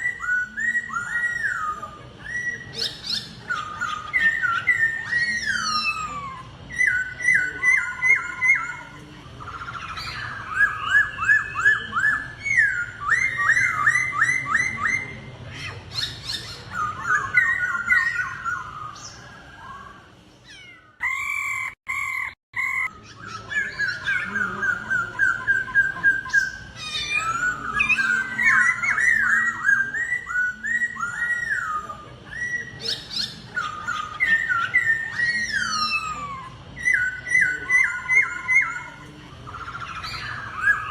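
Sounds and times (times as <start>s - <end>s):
bird whistling song: 0.0s - 40.9s.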